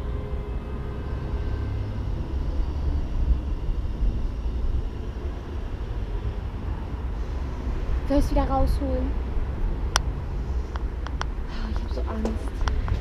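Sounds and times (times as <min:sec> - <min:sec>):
wind buffeting microphone: 0:02.1 - 0:13.0.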